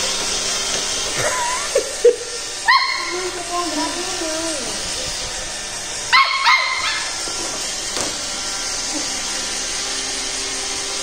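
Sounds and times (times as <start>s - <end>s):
robot vacuum whirring: 0.0s - 11.0s.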